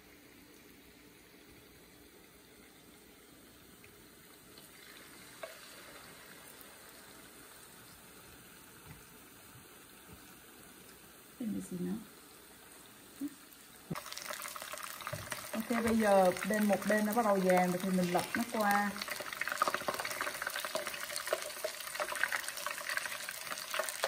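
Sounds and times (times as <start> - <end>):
oil sizzling in skillet: 0.5 - 24.0.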